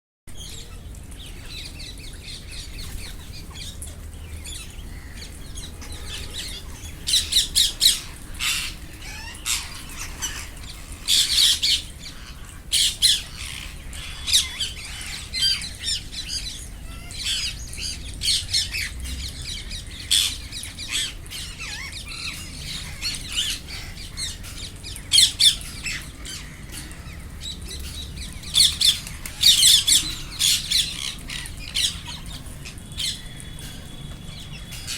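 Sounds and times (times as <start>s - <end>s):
parakeets squawking: 1.4s - 34.9s.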